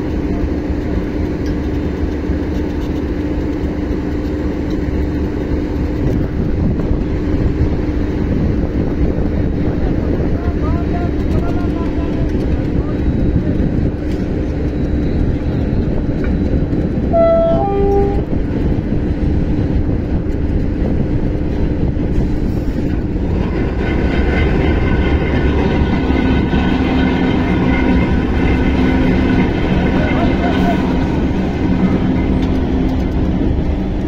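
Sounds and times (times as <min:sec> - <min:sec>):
diesel railway engine running: 0:00.0 - 0:34.0.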